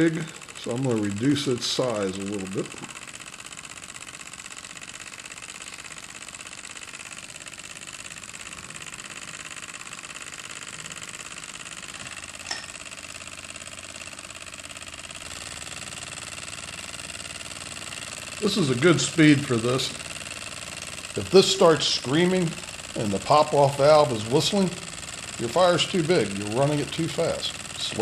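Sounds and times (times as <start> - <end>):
small steam engine clattering: 0.0 - 13.1, 13.7 - 28.0.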